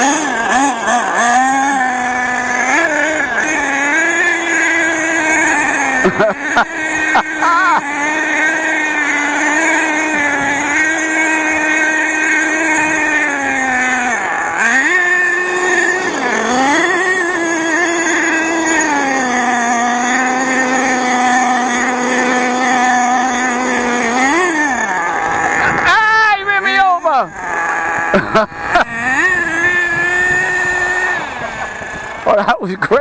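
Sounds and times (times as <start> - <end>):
small engine revving buzz: 0.0 - 32.5.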